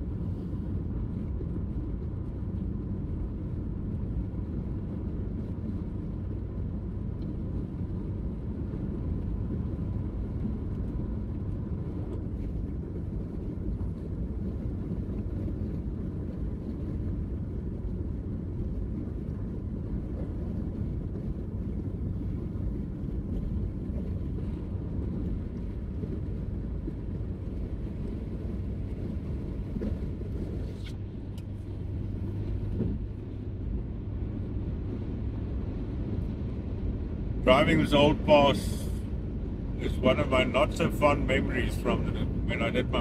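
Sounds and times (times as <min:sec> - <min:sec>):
car cabin road noise: 0:00.0 - 0:43.0.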